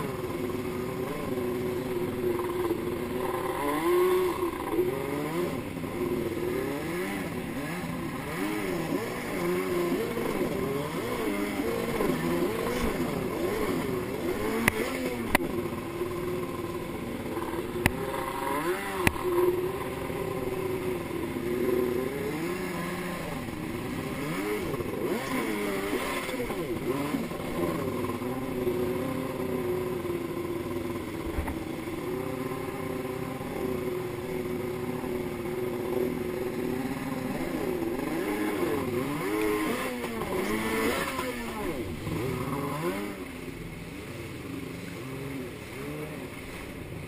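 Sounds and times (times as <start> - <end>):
jet ski engine revving: 0.0 - 47.0.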